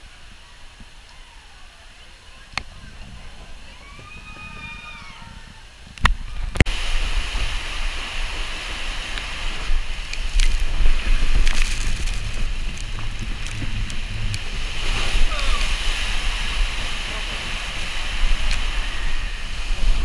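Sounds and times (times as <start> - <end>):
water rushing and churning: 0.0 - 20.0
wind rumble on microphone: 0.0 - 20.0.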